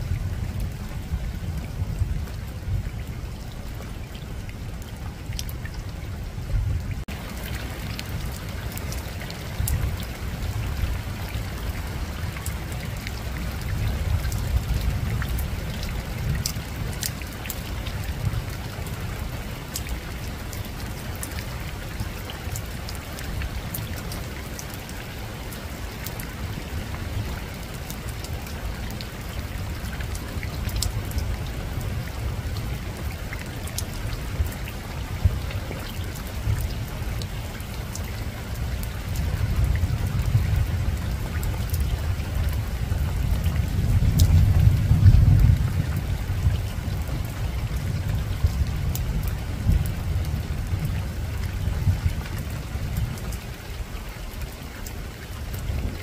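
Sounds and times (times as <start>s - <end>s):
rain pattering on roof: 0.0s - 56.0s.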